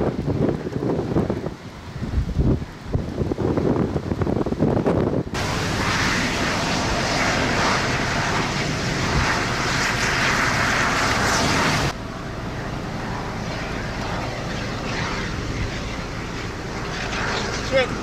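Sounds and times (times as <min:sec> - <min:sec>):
rushing storm wind: 0:00.0 - 0:18.0.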